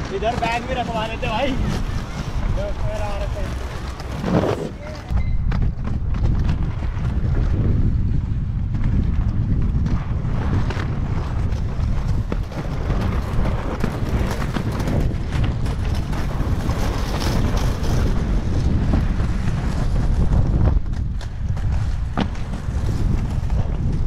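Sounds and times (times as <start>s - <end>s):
skate wheels rolling on concrete: 0.0s - 24.0s
wind noise on microphone: 0.0s - 24.0s.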